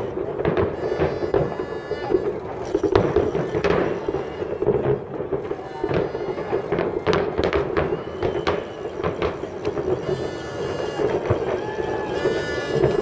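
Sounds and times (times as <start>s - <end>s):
distant fireworks bursting: 0.0s - 13.0s.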